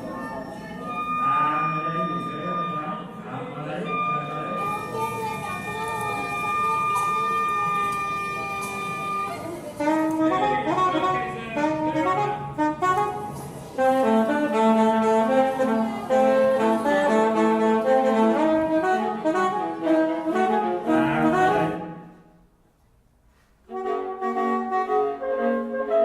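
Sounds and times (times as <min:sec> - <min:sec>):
viola sustained notes: 0:00.0 - 0:22.3
single-reed wind instrument: 0:00.0 - 0:22.5, 0:23.6 - 0:26.0.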